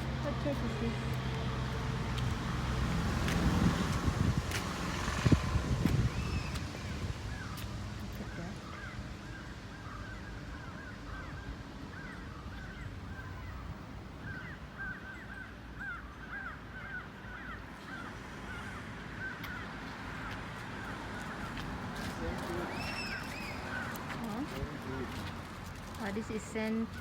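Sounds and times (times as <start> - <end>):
birds calling: 4.7 - 27.0.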